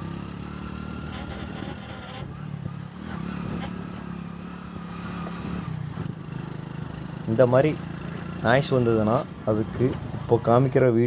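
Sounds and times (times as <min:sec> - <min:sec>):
brake squealing: 0:00.0 - 0:11.0
motorcycle running: 0:00.0 - 0:11.0.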